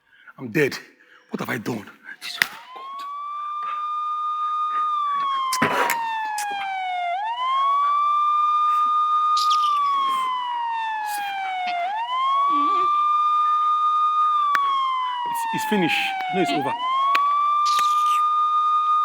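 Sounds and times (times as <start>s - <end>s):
police siren wailing: 1.1s - 19.0s.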